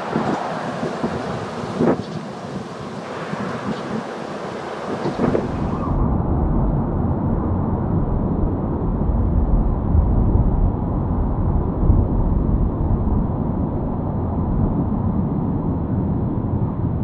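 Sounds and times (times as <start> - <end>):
slowed jet engine rumble: 0.0 - 17.0.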